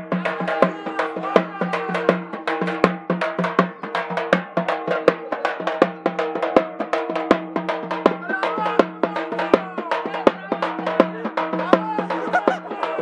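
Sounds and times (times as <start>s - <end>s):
rapid drum strokes: 0.0s - 13.0s.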